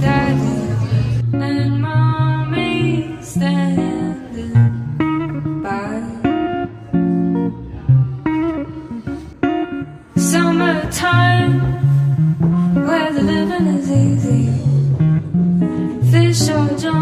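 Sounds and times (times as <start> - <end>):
song with plucked guitar: 0.0 - 17.0.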